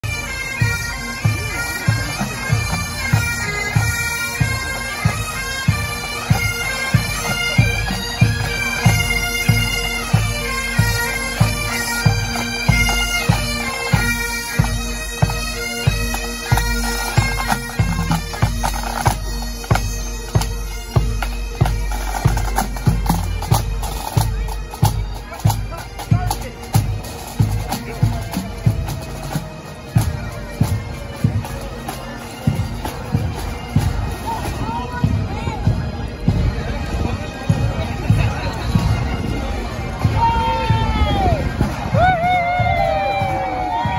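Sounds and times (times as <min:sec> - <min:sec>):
marching drums beating: 0:00.0 - 0:36.6
bagpipes playing tune: 0:00.0 - 0:43.9.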